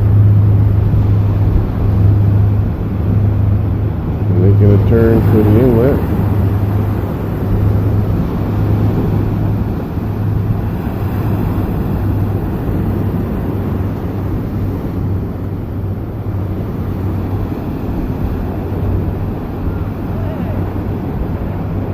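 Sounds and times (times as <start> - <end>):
motorboat engines passing: 0.0 - 21.9.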